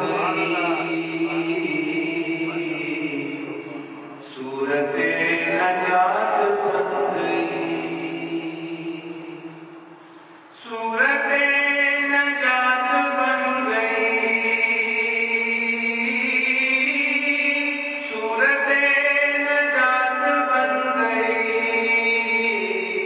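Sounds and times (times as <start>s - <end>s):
man reciting a devotional poem: 0.0s - 23.0s.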